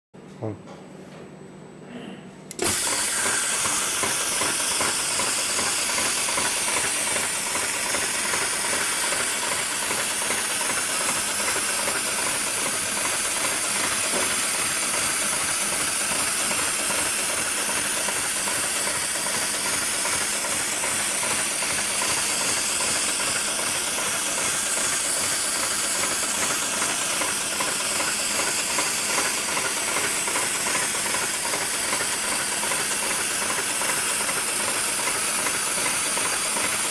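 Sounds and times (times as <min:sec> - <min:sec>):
sewing machine running: 0:02.5 - 0:36.9.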